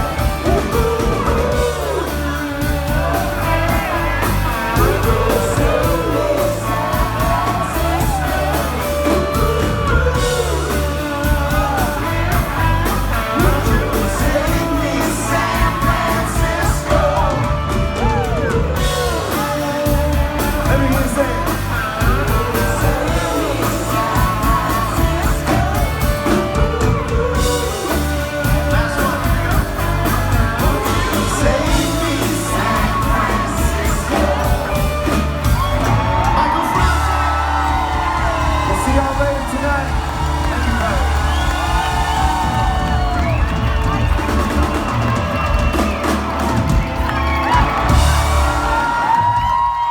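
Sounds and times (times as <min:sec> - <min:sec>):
person singing: 0:00.0 - 0:43.3
crowd yelling and whooping: 0:00.0 - 0:49.9
live rock band: 0:00.0 - 0:49.9.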